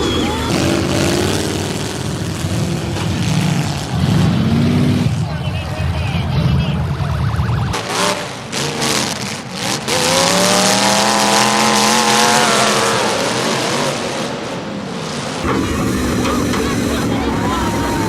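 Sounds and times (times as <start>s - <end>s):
car engine revving hard: 0.0s - 5.2s, 7.7s - 18.0s
tire noise: 0.0s - 18.0s.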